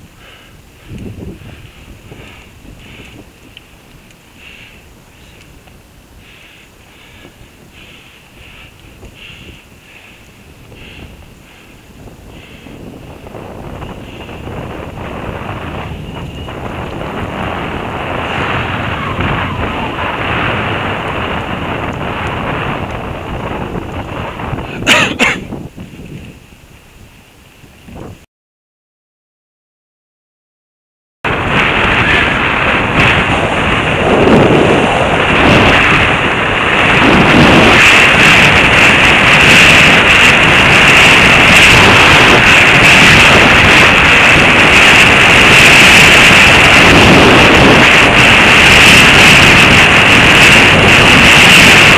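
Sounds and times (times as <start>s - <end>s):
wind buffeting microphone: 0.0s - 28.2s, 31.3s - 51.9s.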